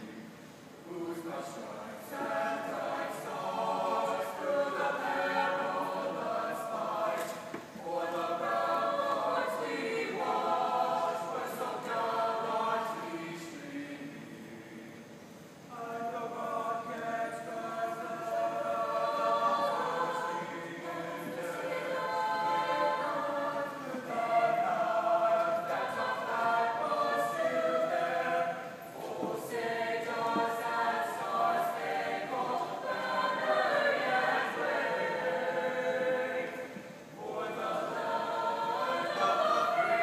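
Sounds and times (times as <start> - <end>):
choir singing held chords: 0.0 - 40.0.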